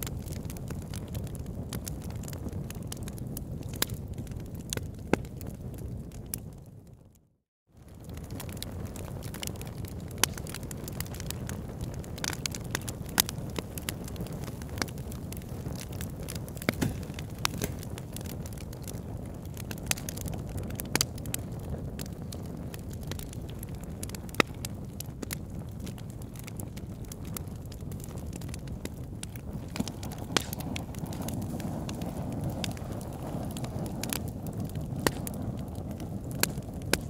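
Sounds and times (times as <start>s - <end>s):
fire popping: 0.0s - 7.2s, 7.8s - 37.0s
wood fire crackling: 0.0s - 7.2s, 7.8s - 37.0s.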